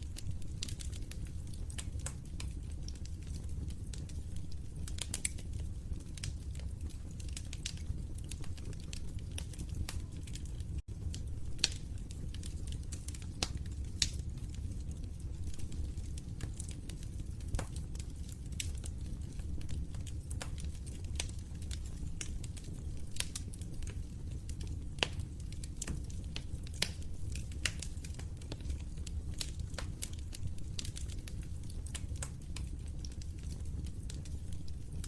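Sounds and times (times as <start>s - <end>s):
fire crackling and popping: 0.0s - 35.0s
low rumble of flames: 0.0s - 35.0s.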